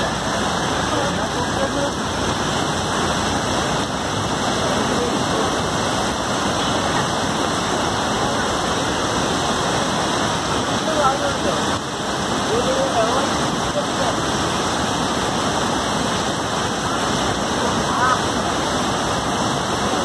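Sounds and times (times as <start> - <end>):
falling rain: 0.0 - 20.0
river water rushing: 0.0 - 20.0.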